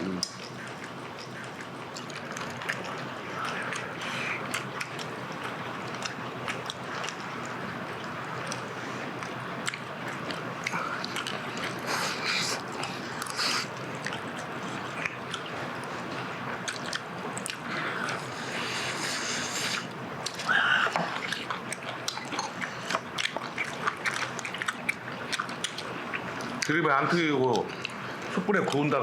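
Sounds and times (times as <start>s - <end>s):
person chewing chicken: 0.0s - 26.7s.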